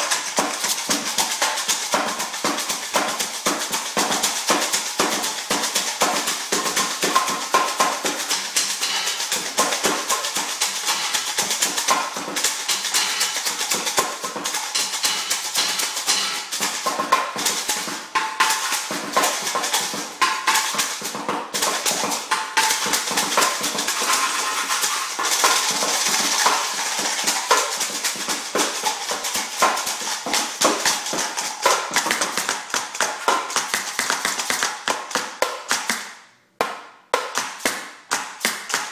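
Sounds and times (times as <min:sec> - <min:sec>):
containers shaken like maracas: 0:00.0 - 0:35.9.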